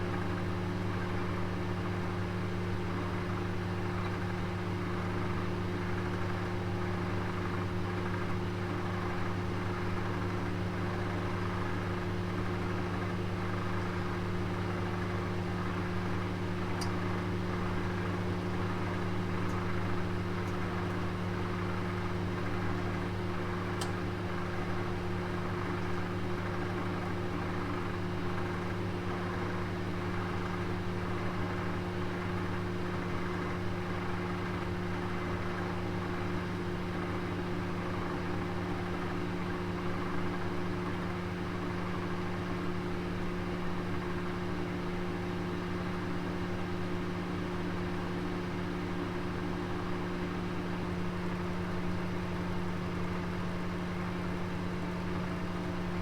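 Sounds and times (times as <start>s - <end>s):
oven electric hum and fan whir: 0.0s - 56.0s.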